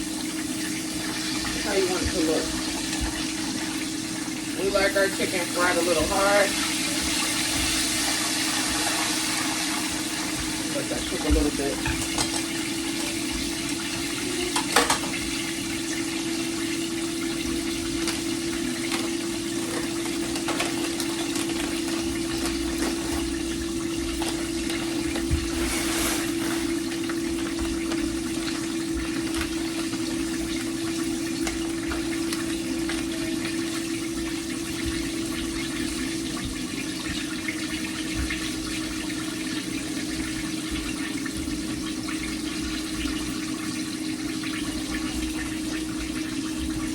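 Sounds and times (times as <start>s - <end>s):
chicken deep-frying in oil: 0.0s - 46.9s.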